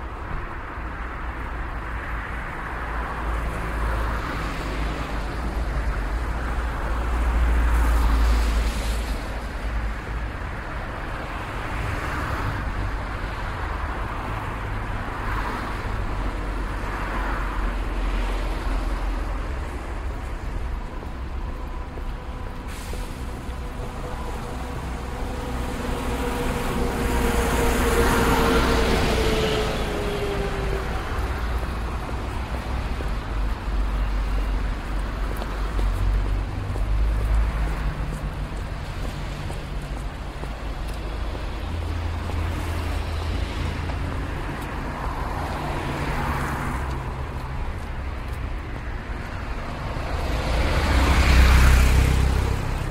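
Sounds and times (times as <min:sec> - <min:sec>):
cars passing: 0:00.0 - 0:52.9.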